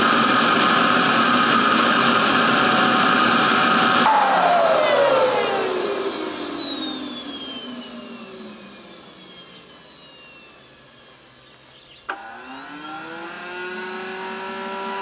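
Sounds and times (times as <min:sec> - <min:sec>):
jet turbine whine: 0:00.0 - 0:15.0
starter motor spinning turbine up: 0:00.0 - 0:15.0.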